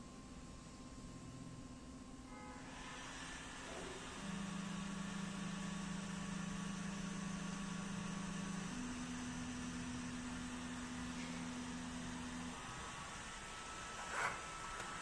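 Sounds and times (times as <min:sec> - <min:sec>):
laser engraver stepper motors humming: 0:00.2 - 0:15.0.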